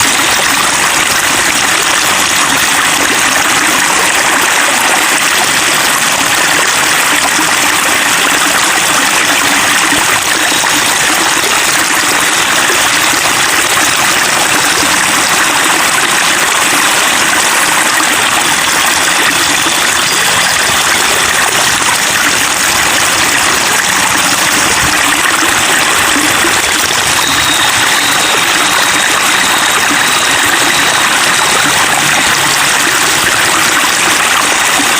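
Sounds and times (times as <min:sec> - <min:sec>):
water babbling and trickling: 0:00.0 - 0:34.9.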